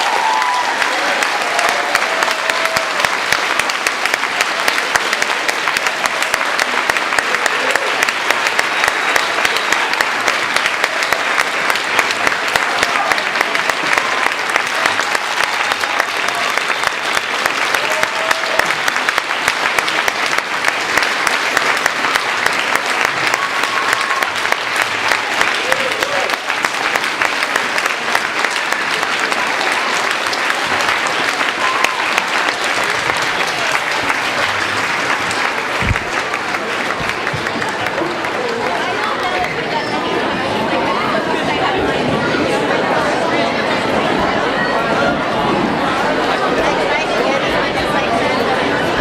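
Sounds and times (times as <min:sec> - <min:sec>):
faint voices and cheers: 0:00.0 - 0:49.0
large audience clapping: 0:00.0 - 0:49.0.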